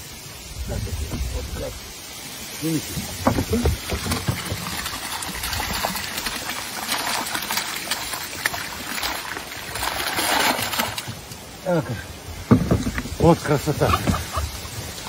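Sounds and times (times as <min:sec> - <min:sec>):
water splashing from a bucket: 0:02.6 - 0:15.0.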